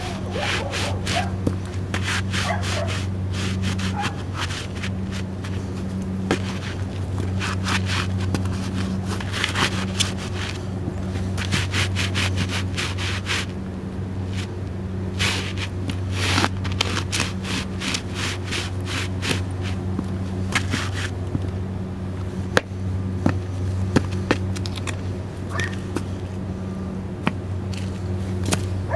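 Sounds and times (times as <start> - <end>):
boots crunching crackers: 0.0 - 13.6, 14.2 - 28.9
steady low hum: 0.0 - 28.9.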